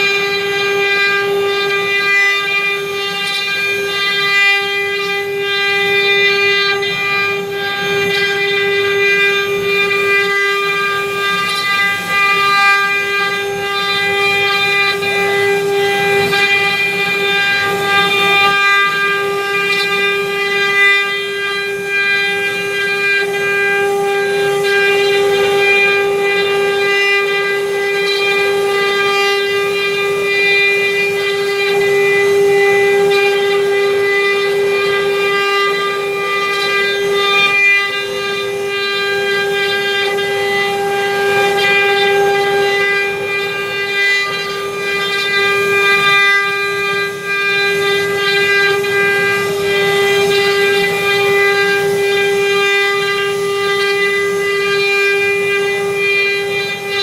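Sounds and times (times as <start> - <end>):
router spindle high whine: 0.0 - 57.0
wood cutting noise: 0.0 - 57.0.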